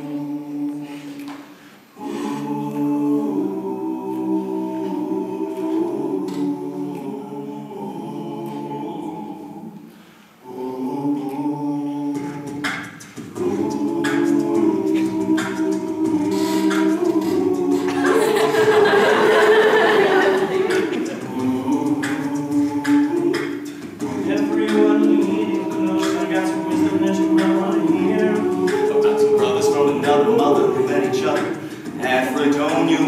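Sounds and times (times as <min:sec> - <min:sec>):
men singing in harmony: 0:02.0 - 0:33.0.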